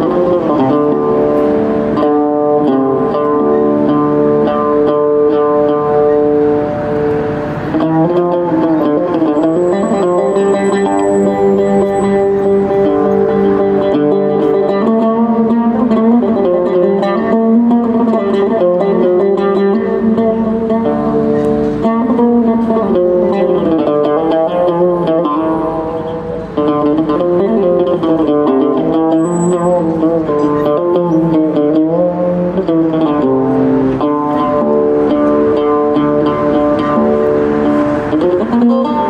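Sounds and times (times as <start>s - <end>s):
oud melody with sliding notes: 0.0s - 39.0s.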